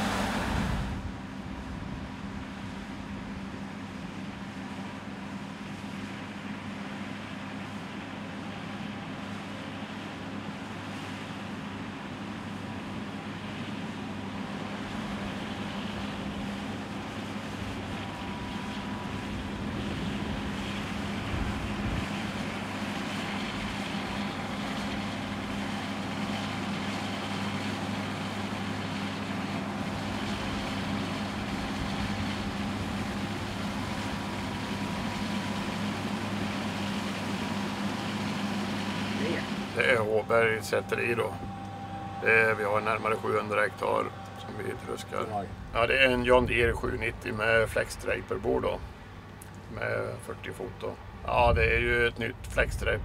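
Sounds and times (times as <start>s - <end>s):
combine harvester engine hum: 0.0s - 53.0s.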